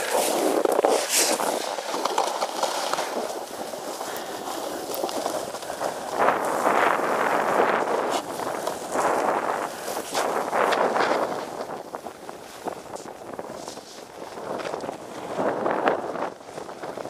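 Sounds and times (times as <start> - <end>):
edges scraping over packed snow: 0.0 - 16.7.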